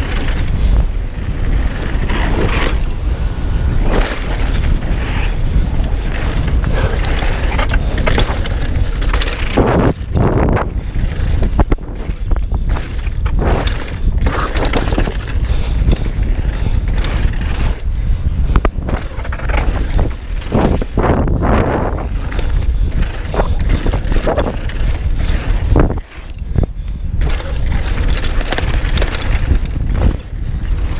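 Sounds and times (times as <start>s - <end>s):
bike rattling clicks and knocks: 0.0s - 30.9s
bike tyre noise on gravel: 0.0s - 30.9s
wind on microphone: 0.0s - 30.9s.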